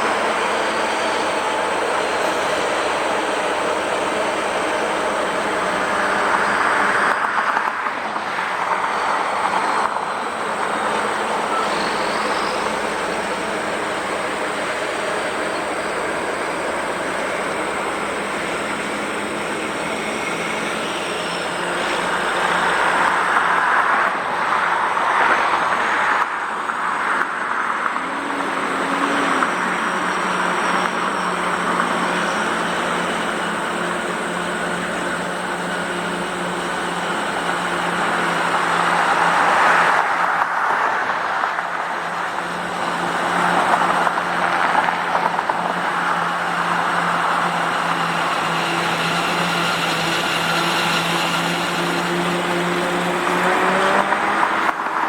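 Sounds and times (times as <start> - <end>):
vehicle road noise: 0.0 - 55.0.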